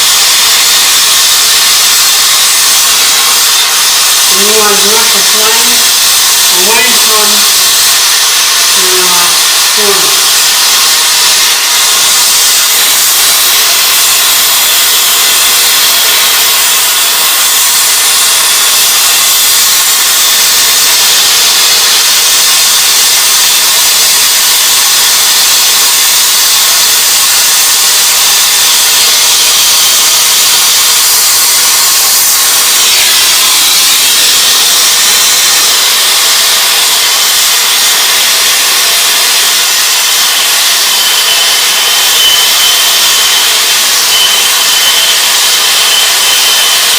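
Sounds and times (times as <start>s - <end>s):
torch flame hissing: 0.0s - 46.9s.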